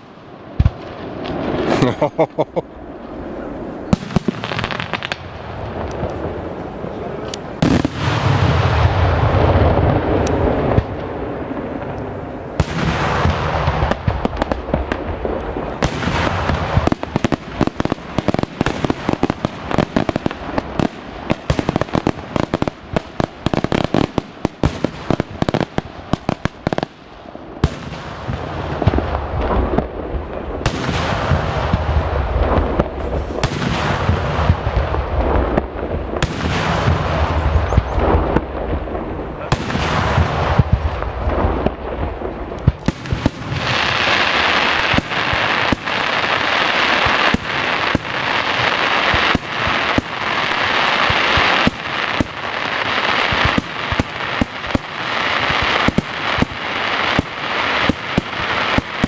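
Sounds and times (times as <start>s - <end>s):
firework shells exploding: 0.0s - 59.0s
rapid sharp firework reports: 0.0s - 59.0s.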